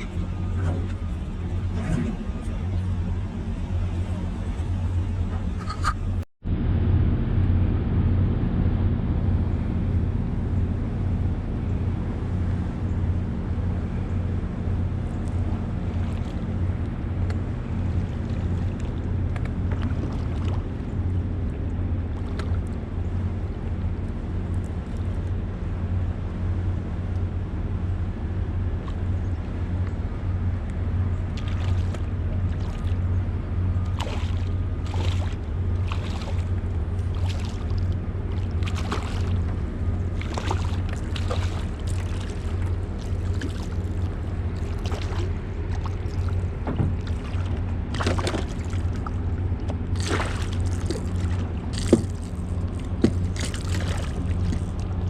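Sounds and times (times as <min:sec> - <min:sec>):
water splashing against hull: 0:00.0 - 0:06.2, 0:08.9 - 0:55.0
boat motor humming: 0:00.0 - 0:55.0.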